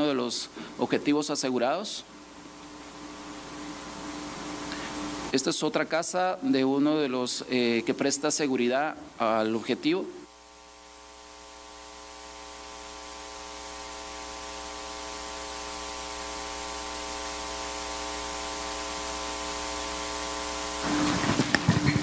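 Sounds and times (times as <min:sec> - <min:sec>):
faint electrical buzz: 0:00.0 - 0:22.0
steady hiss: 0:00.0 - 0:22.0.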